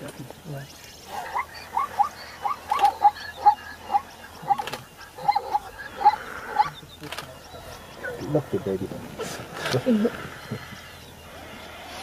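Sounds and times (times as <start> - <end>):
zebra barking yelps: 1.0 - 11.0.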